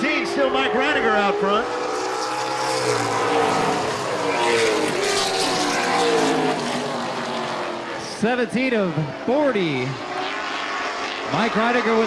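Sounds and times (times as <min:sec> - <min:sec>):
race car engines passing: 0:00.0 - 0:12.0.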